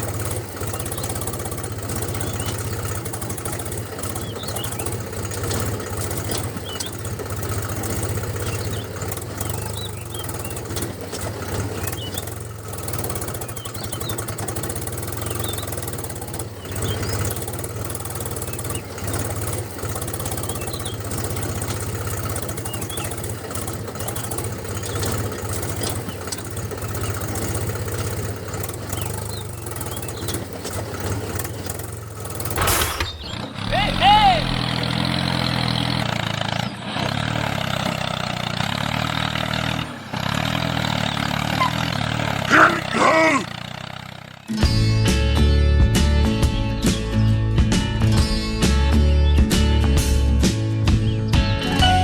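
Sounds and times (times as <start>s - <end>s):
small engine idling: 0.0s - 52.0s.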